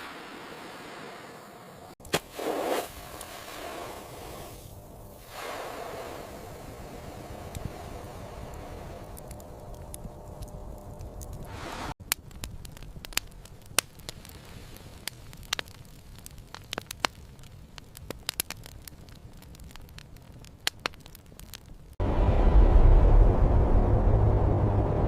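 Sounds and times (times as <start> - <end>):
sharp crackling pops: 1.9 - 22.0.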